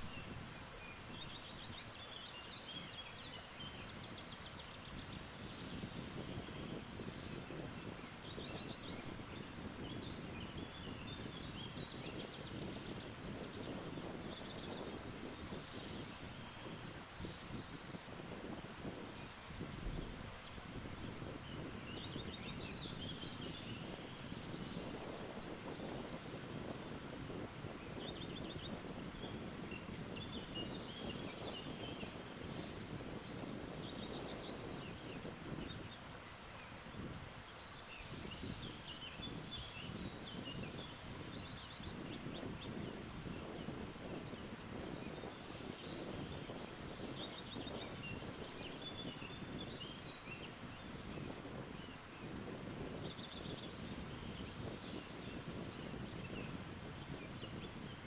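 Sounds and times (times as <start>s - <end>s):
wind through leaves: 0.0s - 58.0s.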